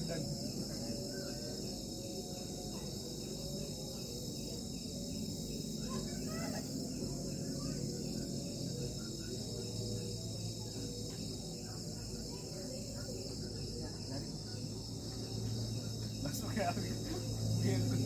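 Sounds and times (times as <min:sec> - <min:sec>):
crickets chirring: 0:00.0 - 0:18.0
faint voices: 0:00.0 - 0:18.0.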